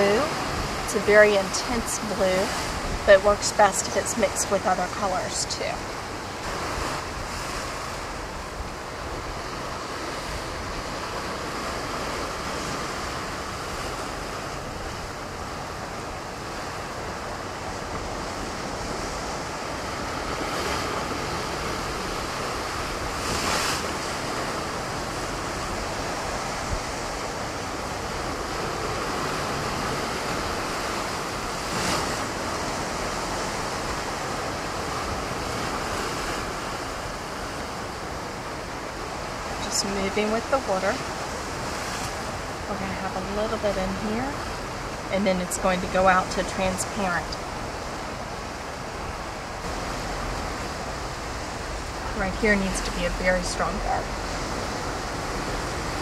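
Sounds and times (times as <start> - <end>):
surf on rocky shore: 0.0 - 56.0
waves breaking: 0.0 - 56.0.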